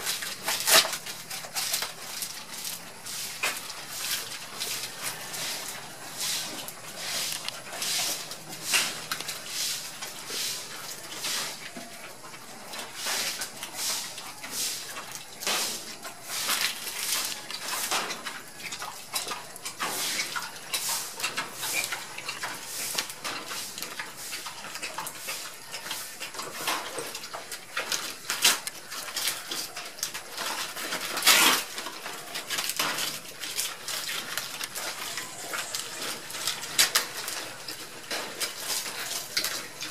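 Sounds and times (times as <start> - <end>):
leaves rustling: 0.0 - 39.9
pigs chewing and crunching: 0.0 - 39.9.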